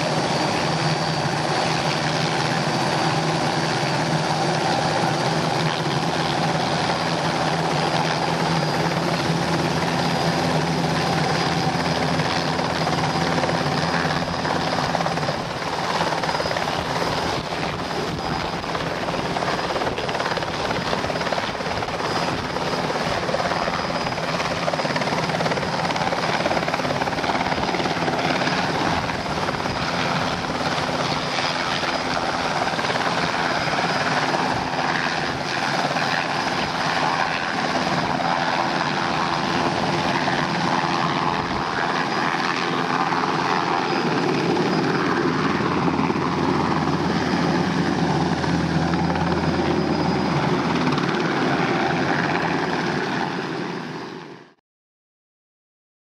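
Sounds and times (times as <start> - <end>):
high turbine whine: 0.0 - 54.5
helicopter rotor noise: 0.0 - 54.6.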